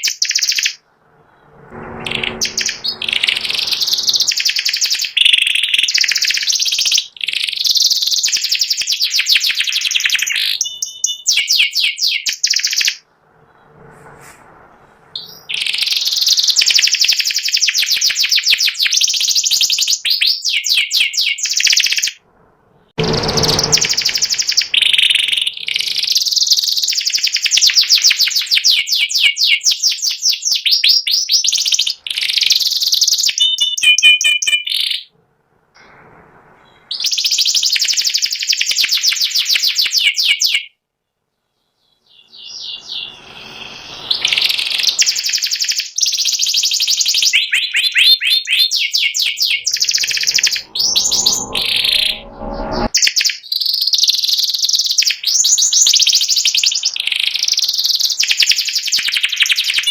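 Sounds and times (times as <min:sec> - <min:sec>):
canary singing trills: 0:00.0 - 0:00.8, 0:02.0 - 0:13.0, 0:15.2 - 0:22.2, 0:23.1 - 0:35.1, 0:41.6 - 0:59.9.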